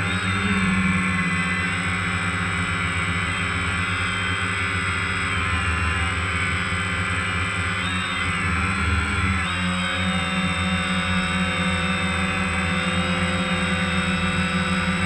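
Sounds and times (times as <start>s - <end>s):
drone motors and propellers: 0.0s - 15.0s.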